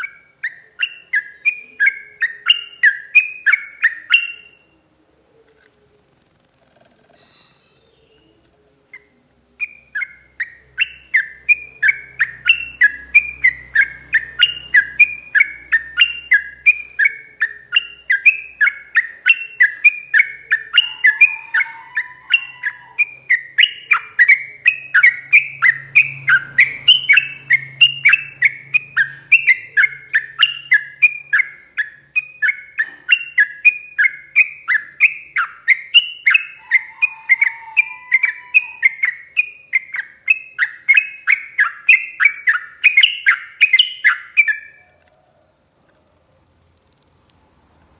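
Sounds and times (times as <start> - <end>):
bird singing down-slurred notes: 0.0 - 4.8, 7.2 - 44.9.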